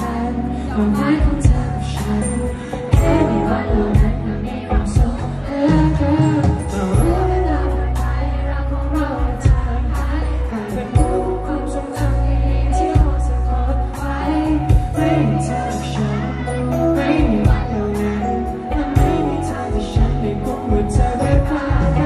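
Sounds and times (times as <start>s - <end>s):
bass notes: 0.0s - 22.0s
person singing into microphone: 0.0s - 22.0s.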